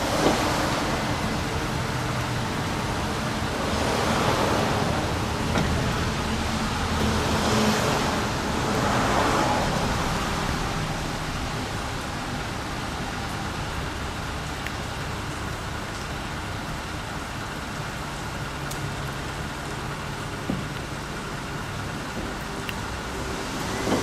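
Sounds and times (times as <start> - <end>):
traffic background: 0.0 - 24.0.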